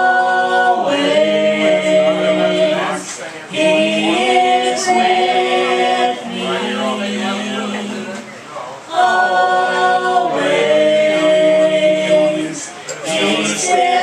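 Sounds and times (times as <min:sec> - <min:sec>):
choir singing gospel in harmony: 0:00.0 - 0:14.0.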